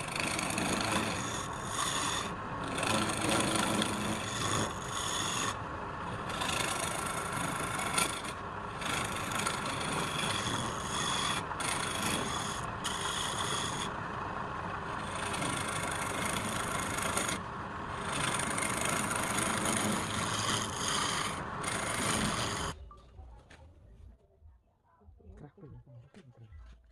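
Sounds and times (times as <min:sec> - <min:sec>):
lathe humming: 0:00.0 - 0:22.8
turning tool scraping spinning wood: 0:00.0 - 0:22.8.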